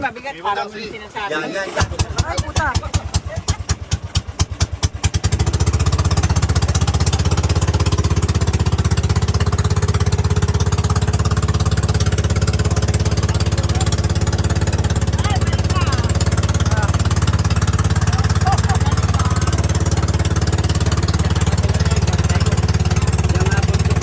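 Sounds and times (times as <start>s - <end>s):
boat engine running: 1.0s - 24.0s.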